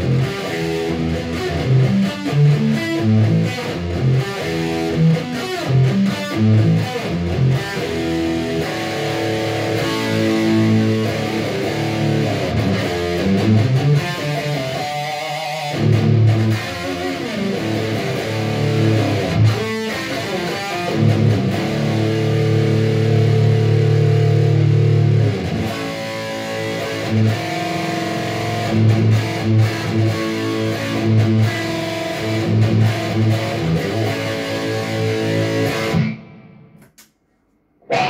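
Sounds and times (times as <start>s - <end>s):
electric guitar playing riffs: 0.0s - 36.8s.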